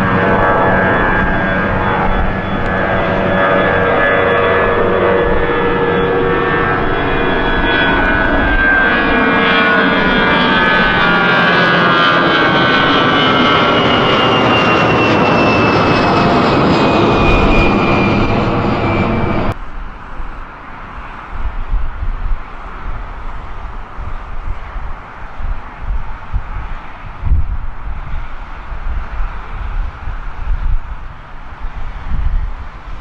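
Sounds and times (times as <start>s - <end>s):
jet engines at takeoff: 0.0s - 33.0s.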